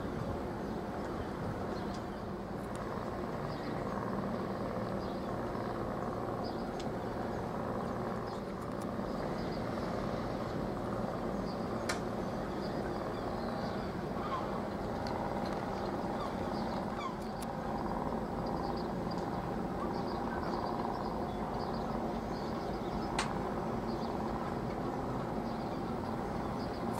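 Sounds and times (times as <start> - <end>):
ship engine drone: 0.0 - 26.9.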